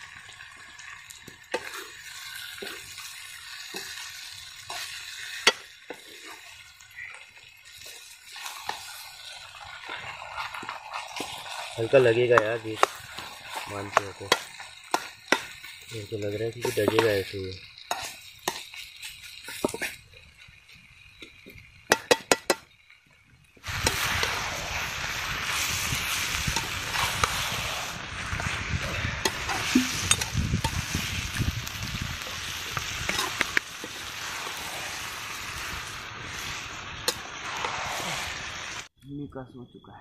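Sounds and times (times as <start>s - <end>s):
chicken sizzling in a pan: 0.0s - 38.9s.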